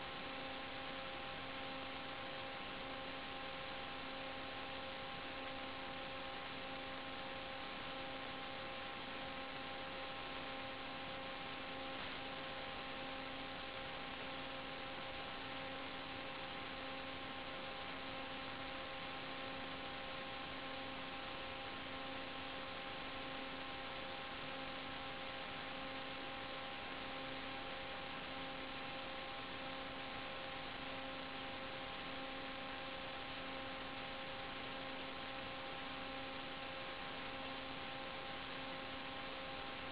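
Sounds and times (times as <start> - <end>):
constant hiss: 0.0 - 39.9
steady electrical hum: 0.0 - 39.9.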